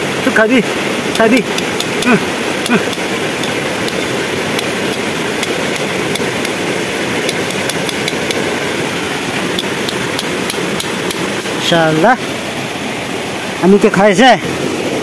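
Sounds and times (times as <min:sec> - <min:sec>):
stream running over rocks: 0:00.0 - 0:15.0.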